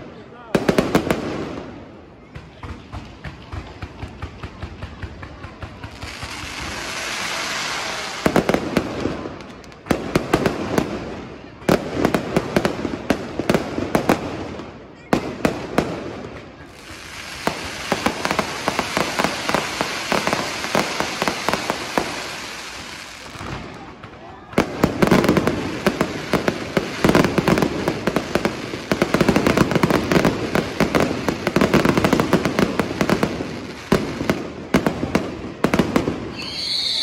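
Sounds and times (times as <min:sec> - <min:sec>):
fireworks bangs and crackles: 0:00.0 - 0:37.0
fireworks crackling hiss: 0:05.6 - 0:37.0.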